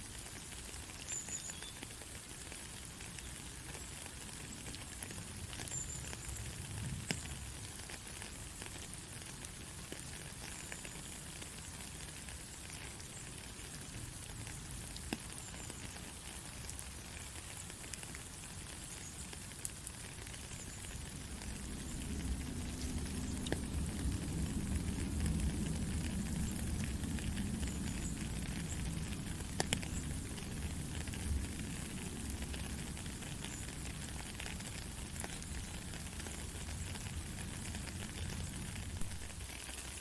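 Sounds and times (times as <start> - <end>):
sharp raindrop ticks: 0.0 - 40.0
steady rain hiss: 0.0 - 40.0.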